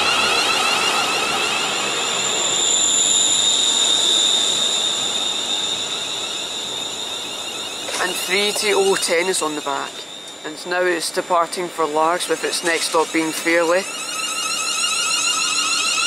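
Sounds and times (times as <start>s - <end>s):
electric train whine: 0.0s - 16.0s
wheel and rail noise: 0.0s - 16.0s.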